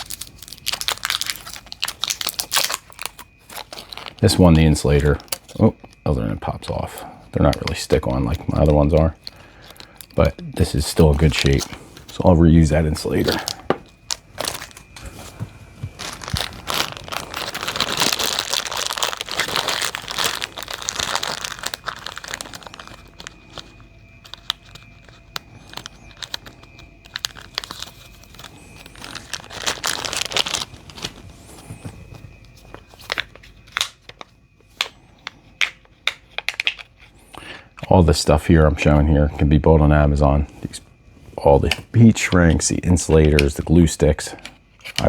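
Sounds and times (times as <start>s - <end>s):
plastic wrap crinkling: 0.0s - 38.0s.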